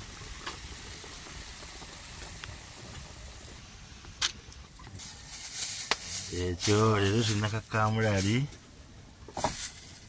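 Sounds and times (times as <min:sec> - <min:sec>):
meat boiling in a pot: 0:00.0 - 0:09.4.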